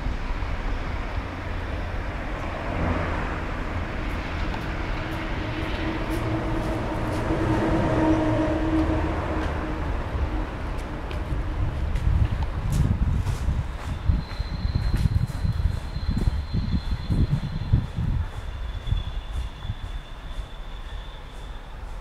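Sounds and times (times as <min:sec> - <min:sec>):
muffled diesel locomotive rumble: 0:00.0 - 0:22.0.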